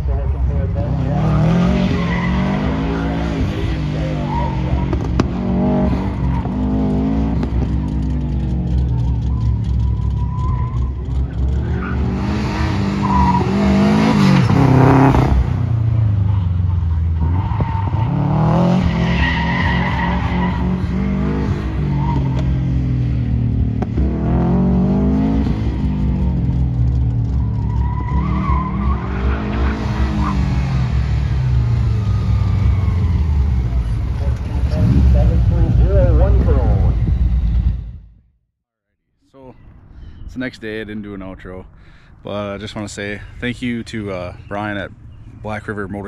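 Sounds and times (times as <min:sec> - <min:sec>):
car engine revving: 0:00.0 - 0:38.2
tires squealing: 0:00.2 - 0:37.9.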